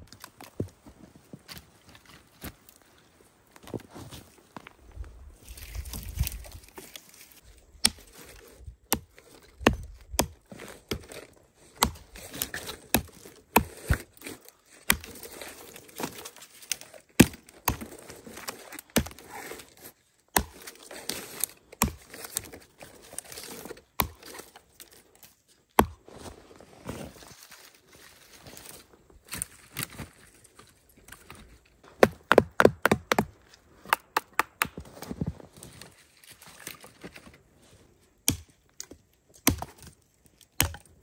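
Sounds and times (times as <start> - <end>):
rustling and crinkling: 0.0 - 32.0, 34.7 - 38.2.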